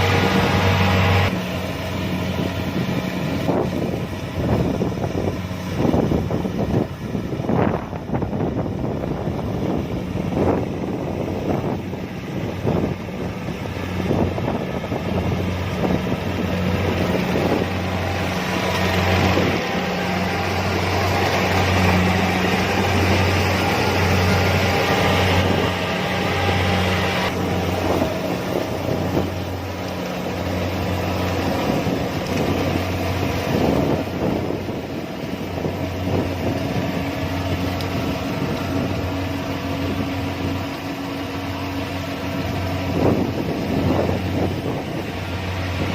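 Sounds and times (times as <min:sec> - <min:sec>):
combine harvester diesel drone: 0:00.0 - 0:45.9.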